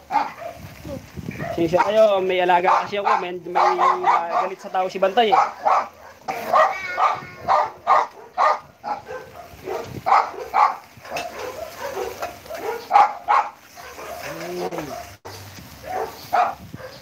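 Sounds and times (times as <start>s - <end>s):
dog barking: 0.0s - 0.7s, 1.3s - 2.0s, 2.6s - 17.0s.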